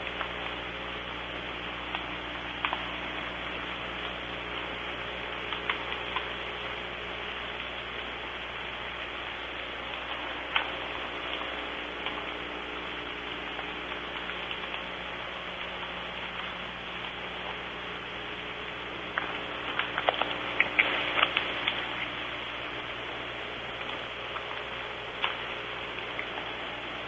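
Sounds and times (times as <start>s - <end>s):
raindrop ticks: 0.0s - 27.0s
soft rain falling: 0.0s - 27.0s.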